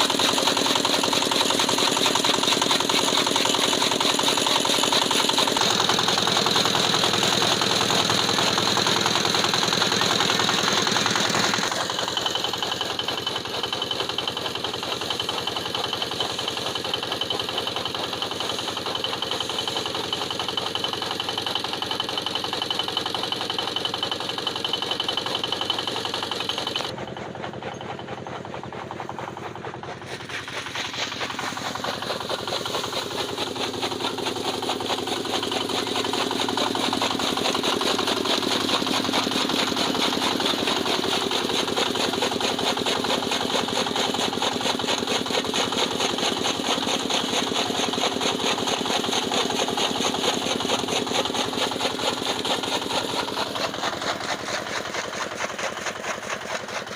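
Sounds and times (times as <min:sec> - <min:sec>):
diesel engine knocking: 0:00.0 - 0:56.9.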